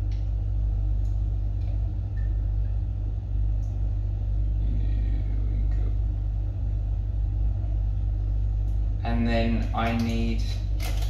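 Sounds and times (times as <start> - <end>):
low rumble hum: 0.0 - 11.0.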